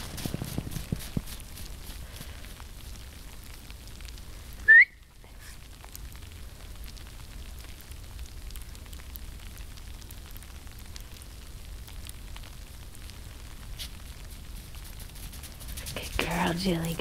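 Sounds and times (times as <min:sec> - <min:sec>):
fine snow falling through trees: 0:00.0 - 0:17.0.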